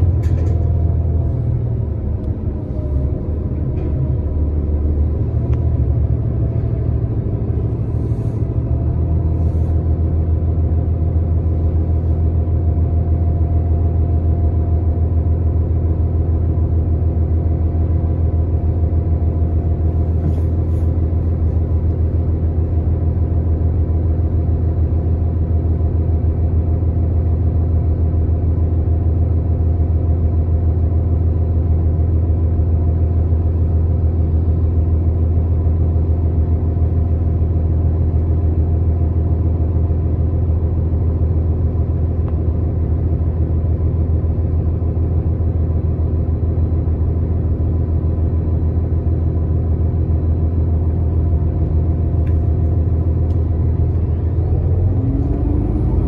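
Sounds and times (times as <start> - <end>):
bus engine hum from inside: 0.0 - 56.0.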